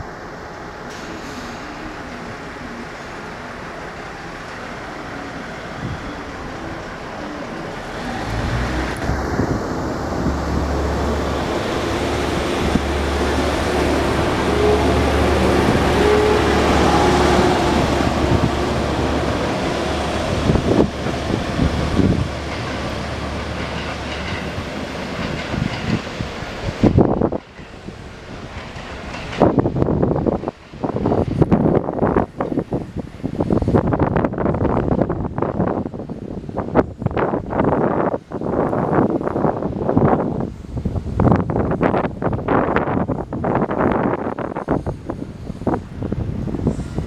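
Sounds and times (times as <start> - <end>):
train low hum: 0.0 - 47.0
train wheels clicking on rail joints: 0.8 - 47.0.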